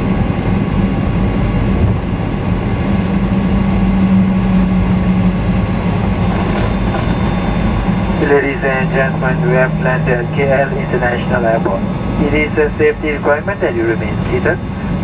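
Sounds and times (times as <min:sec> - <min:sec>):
jet engines idling: 0:00.0 - 0:15.0
low hum: 0:00.0 - 0:15.0.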